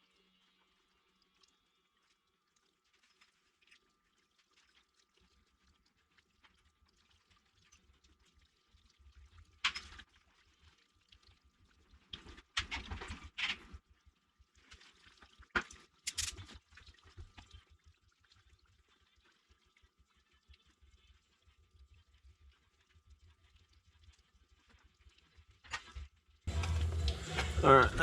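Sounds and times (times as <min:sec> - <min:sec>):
coolant trickling: 0:00.0 - 0:28.0.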